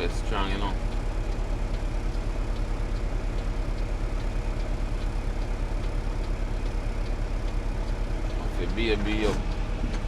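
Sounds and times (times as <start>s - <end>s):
diesel truck engine running: 0.0s - 10.0s
faint light ticking: 0.1s - 10.0s.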